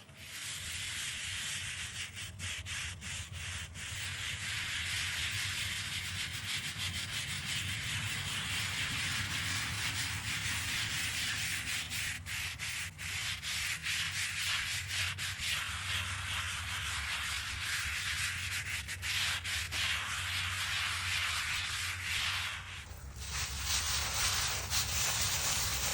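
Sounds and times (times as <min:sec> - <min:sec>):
brush scrubbing stone: 0:00.1 - 0:25.9.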